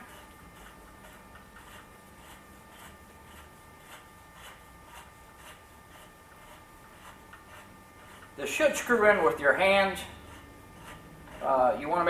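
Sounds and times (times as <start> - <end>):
metal threads ticking and rubbing: 0.0 - 12.0.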